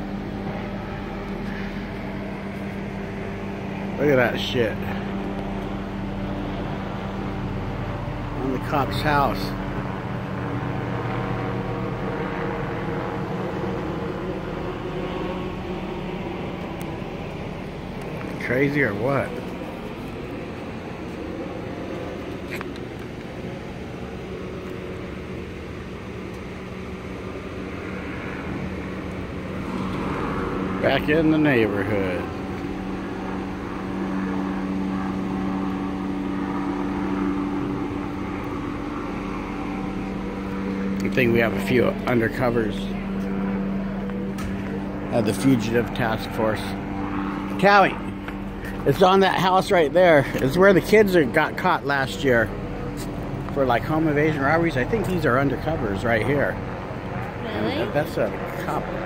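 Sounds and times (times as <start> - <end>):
helicopter hovering: 0.0 - 59.0.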